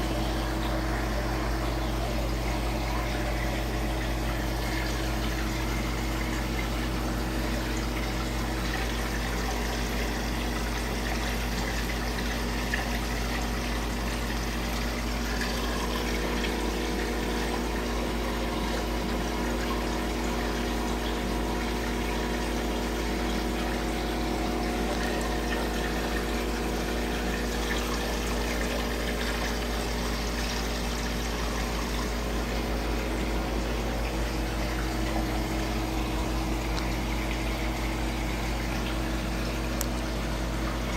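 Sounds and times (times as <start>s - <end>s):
aquarium pump humming: 0.0s - 40.9s
water bubbling and trickling: 0.0s - 40.9s.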